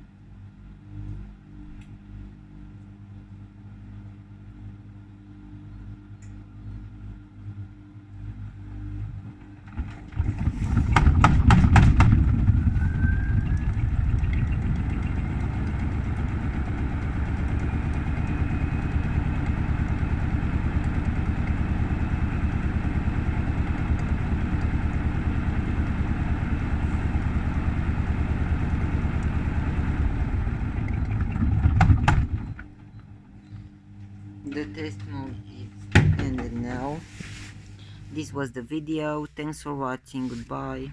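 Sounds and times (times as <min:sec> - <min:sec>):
washing machine spinning: 0:02.4 - 0:40.9.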